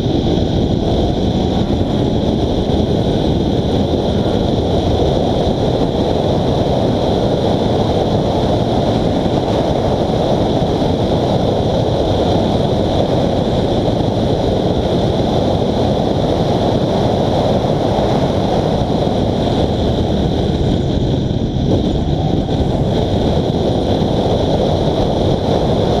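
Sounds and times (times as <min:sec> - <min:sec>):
car interior road roar: 0:00.0 - 0:26.0.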